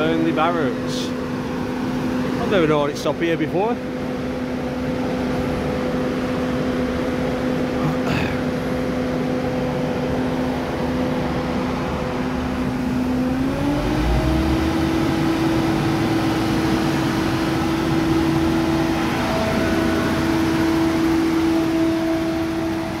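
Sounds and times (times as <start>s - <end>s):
train diesel engine humming: 3.8s - 23.0s.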